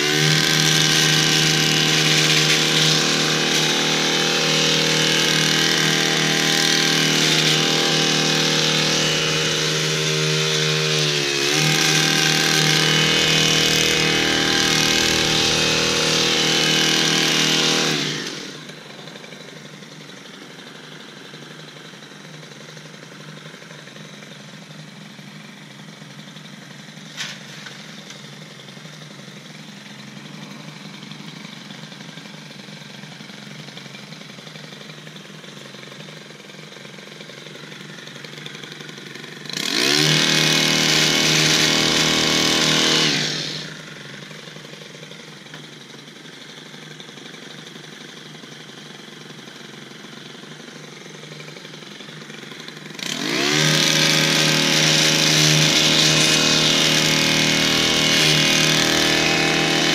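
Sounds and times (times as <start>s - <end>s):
hedge trimmer engine running: 0.0s - 59.9s.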